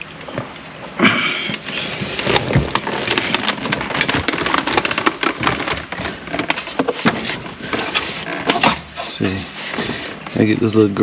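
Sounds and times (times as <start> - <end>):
plastic clicking and rustling: 1.5 - 11.0.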